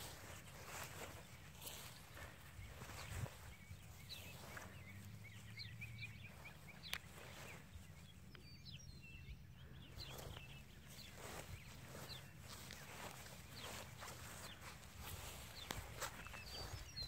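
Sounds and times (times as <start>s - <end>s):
puppies rustling in grass: 0.0s - 8.2s, 9.9s - 17.0s.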